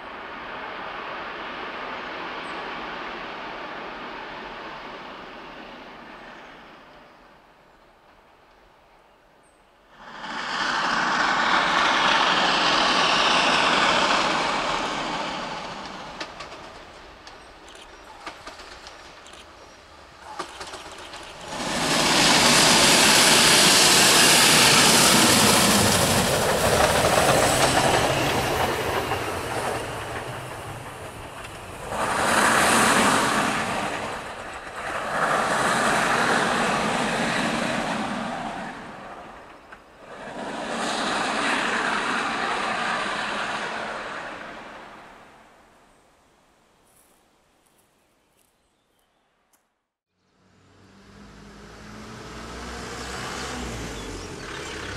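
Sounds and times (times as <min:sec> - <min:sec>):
steam train passing: 0:00.0 - 0:08.9, 0:09.8 - 0:45.9, 0:51.2 - 0:54.9.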